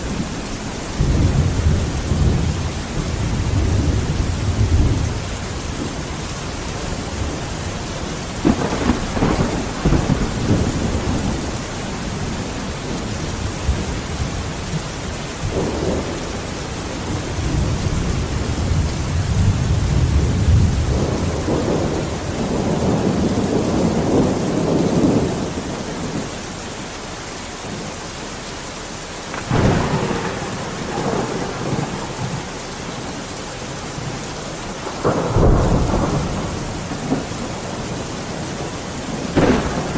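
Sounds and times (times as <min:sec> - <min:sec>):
thunder rumbling and cracking: 0:00.0 - 0:26.4, 0:29.3 - 0:39.9
steady rain falling: 0:00.0 - 0:39.9.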